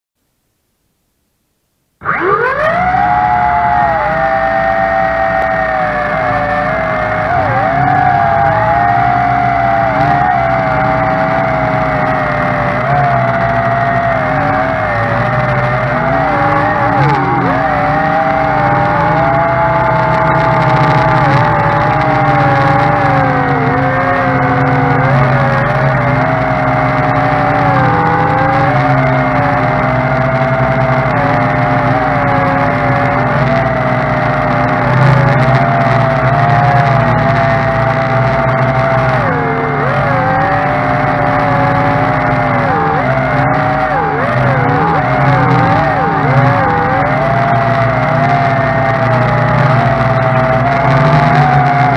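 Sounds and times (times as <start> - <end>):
quadcopter propellers whining: 2.0 - 51.9.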